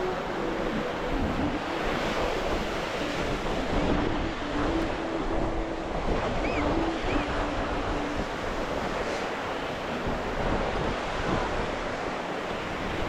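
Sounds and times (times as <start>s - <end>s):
ocean surf breaking on beach: 0.0s - 13.0s
wind buffeting microphone: 0.0s - 13.0s.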